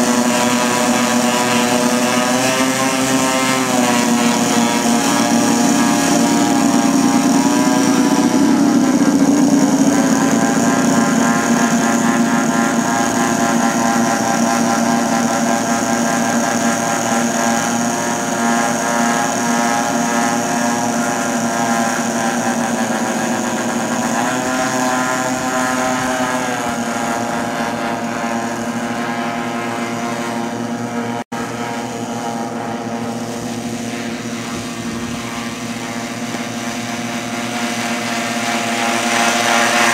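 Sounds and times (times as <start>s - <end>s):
model airplane engines running: 0.0s - 39.9s.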